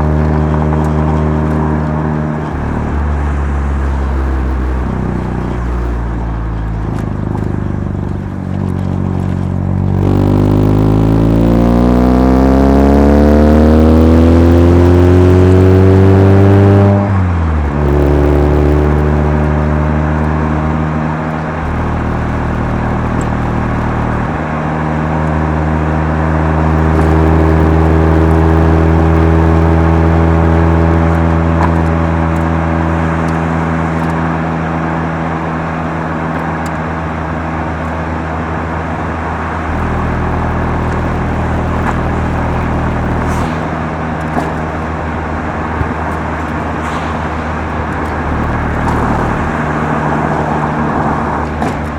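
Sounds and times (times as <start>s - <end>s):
rotary engine revving while driving: 0.0s - 51.9s.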